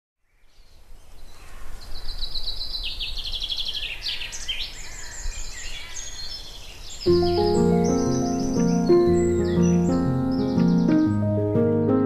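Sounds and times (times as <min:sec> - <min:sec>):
songbird singing: 0:00.2 - 0:12.0.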